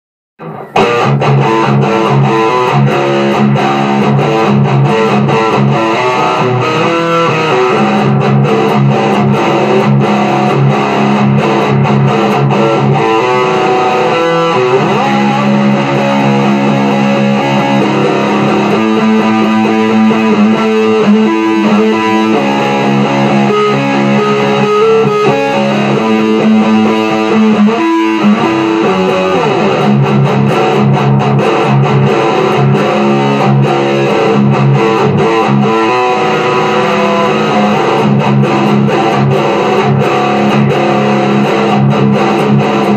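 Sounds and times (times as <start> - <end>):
overdriven electric guitar riff: 0.4 - 42.9.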